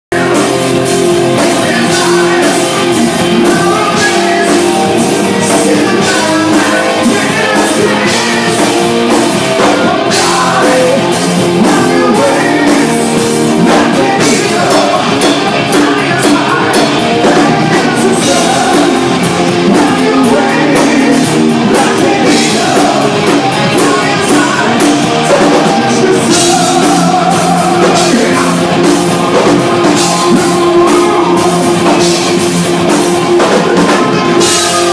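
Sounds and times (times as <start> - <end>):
distorted electric guitar: 0.1 - 34.9
drum kit: 0.1 - 34.9
lead singer singing: 0.1 - 34.9.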